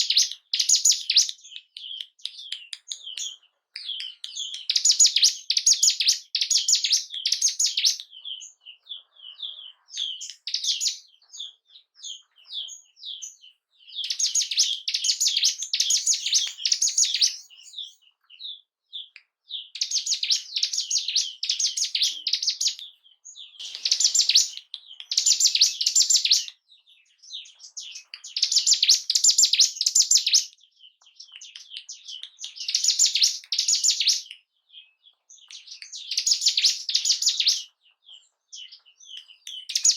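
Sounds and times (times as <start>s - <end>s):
bird chirps: 0.0s - 39.9s
songbird chattering song: 0.0s - 39.9s.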